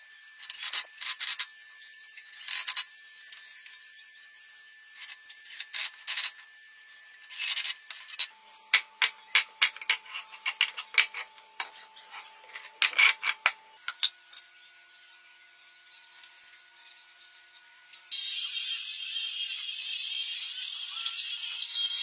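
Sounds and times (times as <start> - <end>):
table saw cutting board: 0.2 - 22.0.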